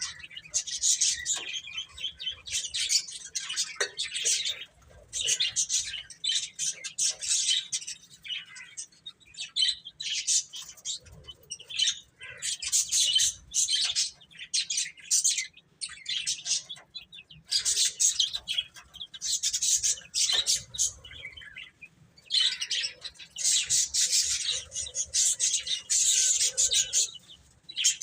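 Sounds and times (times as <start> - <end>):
baby chicks peeping: 0.0 - 28.0.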